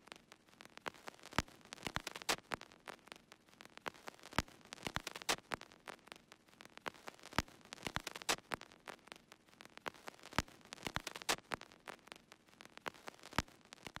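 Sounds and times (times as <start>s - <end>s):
record crackle clicks and pops: 0.0s - 14.0s.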